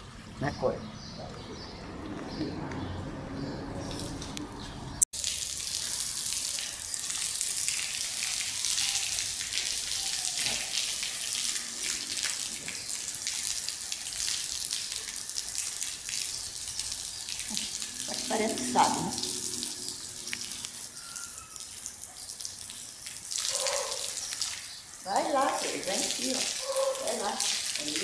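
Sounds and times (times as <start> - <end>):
hose spray splashing on stone: 5.2 - 28.0.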